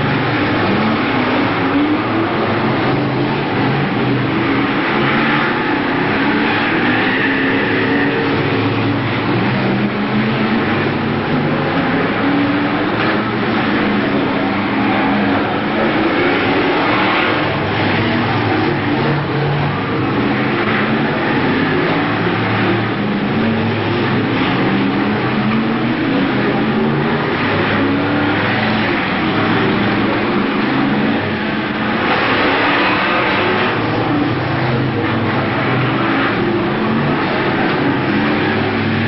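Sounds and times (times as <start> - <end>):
racing car engines: 0.0 - 39.0.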